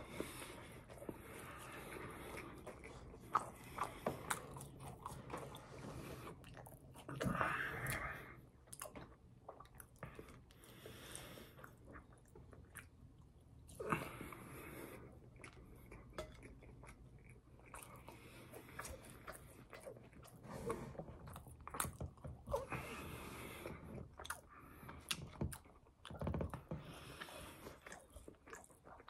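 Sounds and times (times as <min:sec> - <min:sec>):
chewing fries: 0:00.0 - 0:29.0.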